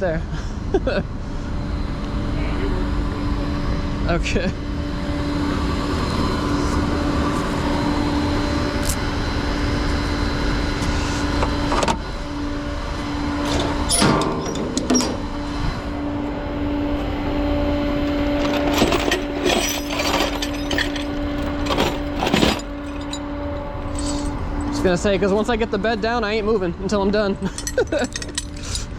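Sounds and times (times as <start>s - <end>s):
truck engine humming: 0.8s - 28.9s.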